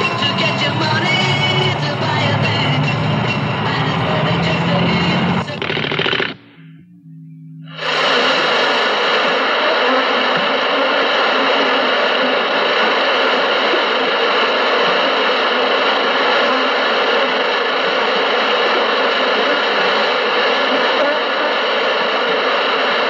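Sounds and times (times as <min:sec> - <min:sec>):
loud steady rushing noise: 0:00.0 - 0:06.4, 0:07.7 - 0:23.0.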